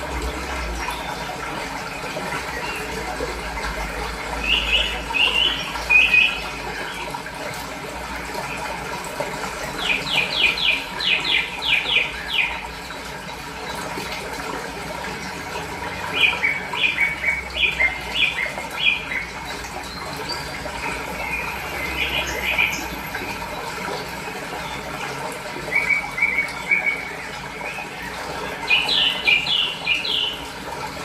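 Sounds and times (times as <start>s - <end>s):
running water rushing: 0.0s - 31.0s
songbirds chirping: 0.0s - 31.0s.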